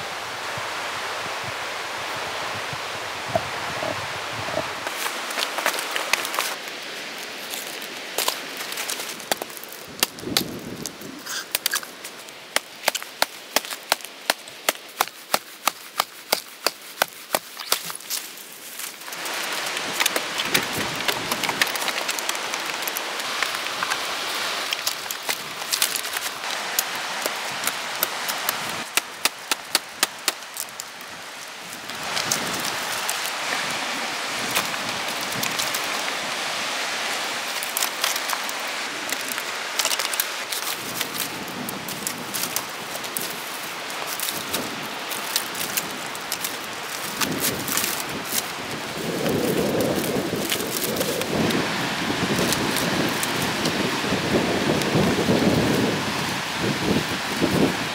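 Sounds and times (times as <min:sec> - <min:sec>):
dry branches rustling and crackling: 0:00.0 - 0:57.9
twigs snapping: 0:04.8 - 0:36.3, 0:37.2 - 0:53.8.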